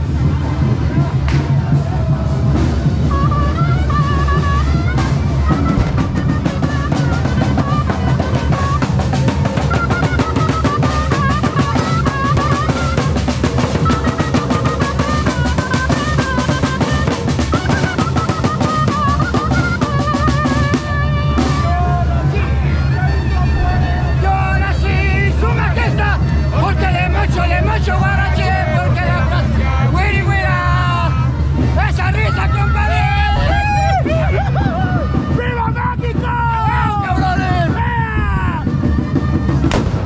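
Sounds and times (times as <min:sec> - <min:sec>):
drums beating march rhythm: 0:00.0 - 0:40.0
flute playing fast melody: 0:00.0 - 0:40.0.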